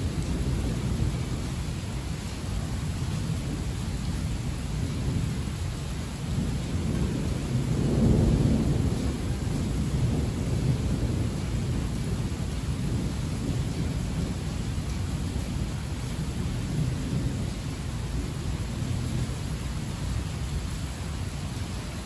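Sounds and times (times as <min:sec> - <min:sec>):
thunder rumbling: 0:00.0 - 0:21.9
heavy rain: 0:00.0 - 0:22.0.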